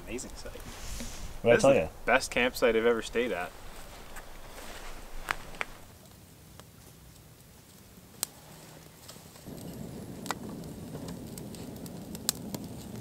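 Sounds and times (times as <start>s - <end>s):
rush of flame: 0.0s - 5.9s, 7.7s - 13.0s
campfire crackling and popping: 0.0s - 13.0s.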